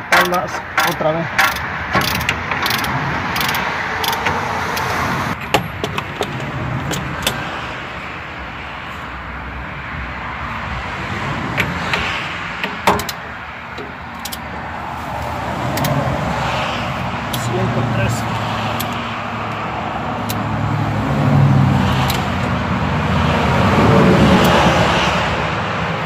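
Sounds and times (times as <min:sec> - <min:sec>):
road traffic hum: 0:00.0 - 0:26.0.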